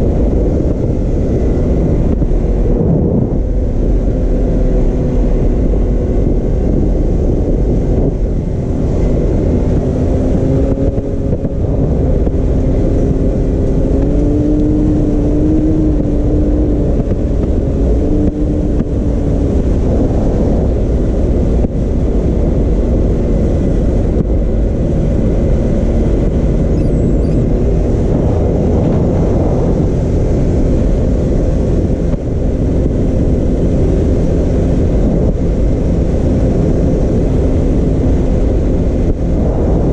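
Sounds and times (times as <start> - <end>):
steady low rumble: 0.0 - 39.9
vehicle engine running: 0.0 - 39.9.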